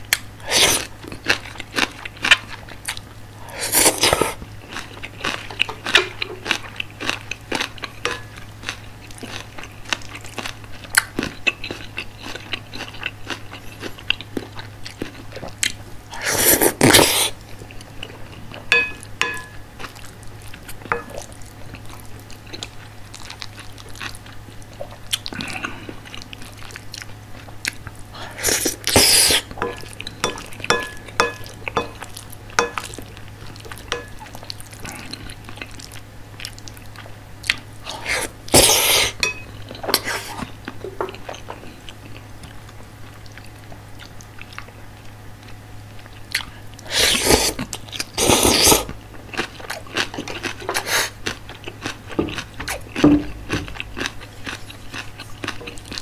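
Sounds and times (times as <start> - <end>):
close-miked chewing and crunching: 0.0 - 56.0.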